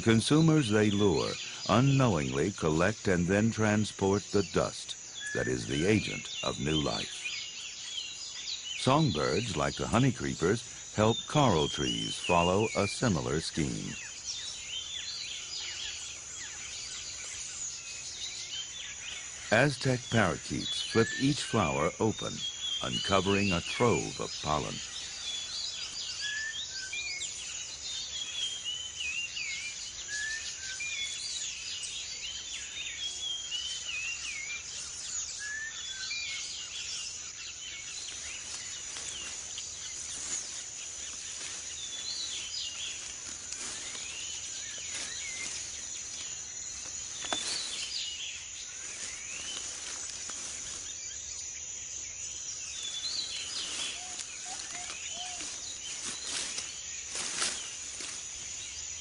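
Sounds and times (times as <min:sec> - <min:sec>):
birds chirping: 0:00.0 - 0:59.0
high insect drone: 0:00.0 - 0:59.0.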